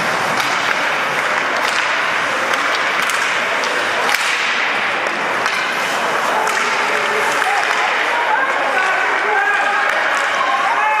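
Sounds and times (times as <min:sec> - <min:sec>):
arena crowd din: 0:00.0 - 0:11.0
hockey sticks and puck clacking: 0:00.0 - 0:11.0
sharp cracks: 0:00.2 - 0:10.4.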